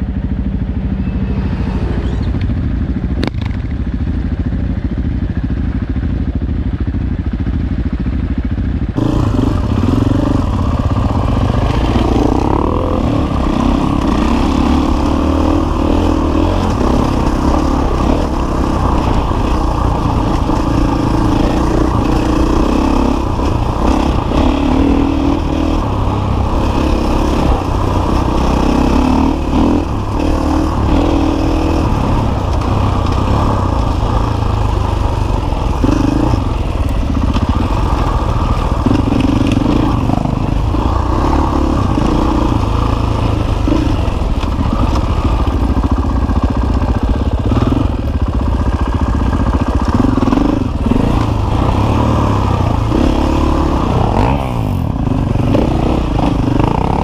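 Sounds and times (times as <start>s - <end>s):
motorcycle engine revving: 0.0s - 57.0s
motorcycle rattling over ground: 1.4s - 57.0s.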